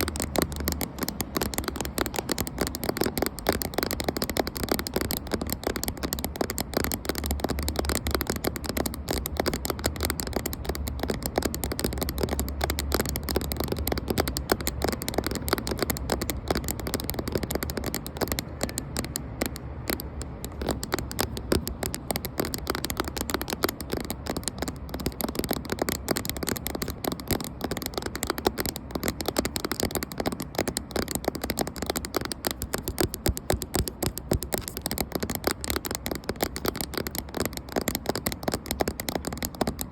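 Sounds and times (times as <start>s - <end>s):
rapid tapping on camera: 0.0s - 39.9s.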